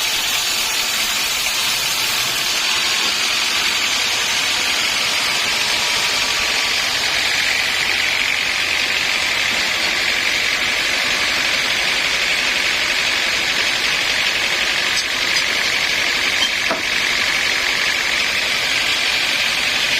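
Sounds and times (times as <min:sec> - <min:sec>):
sawmill machinery running: 0:00.0 - 0:19.9.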